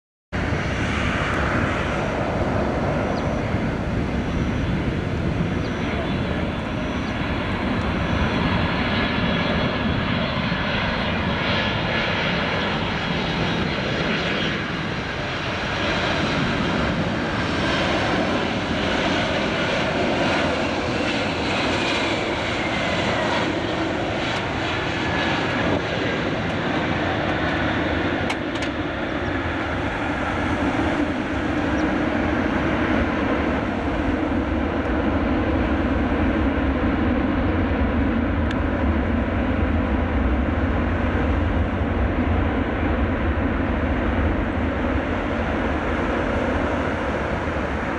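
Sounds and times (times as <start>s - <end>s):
airliner jet engines roaring: 0.4s - 47.9s.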